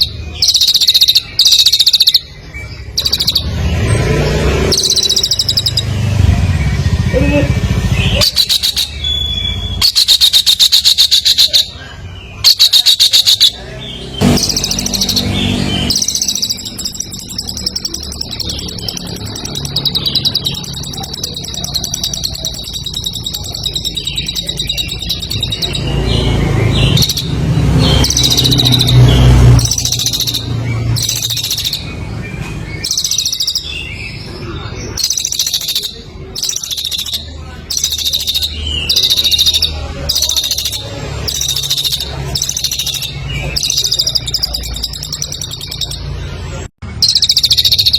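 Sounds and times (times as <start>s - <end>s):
songbird chattering trills: 0.0s - 47.9s.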